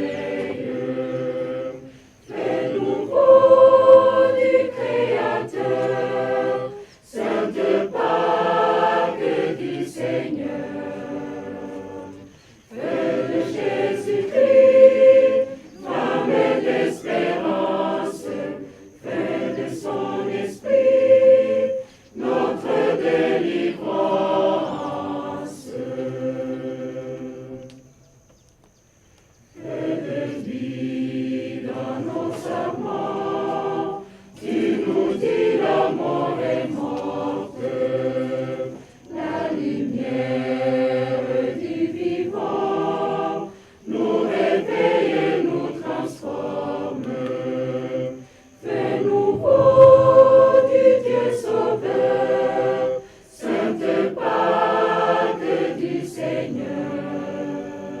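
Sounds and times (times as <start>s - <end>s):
choir singing a hymn: 0.0s - 28.4s, 29.4s - 58.0s.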